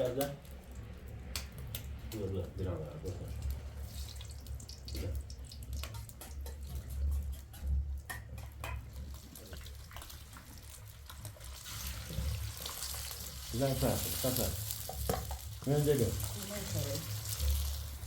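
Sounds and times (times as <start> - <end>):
water running and dripping: 0.0 - 18.0.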